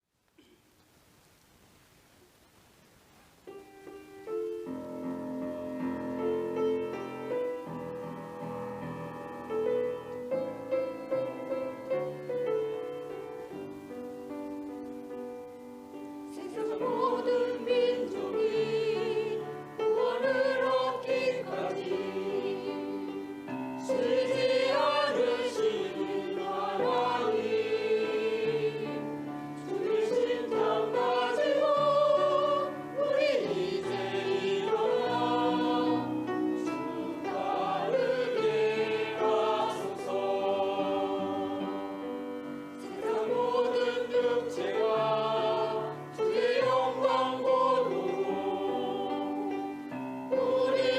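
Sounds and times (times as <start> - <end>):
keyboard accompaniment: 3.4 - 50.9
church choir singing: 4.6 - 50.9.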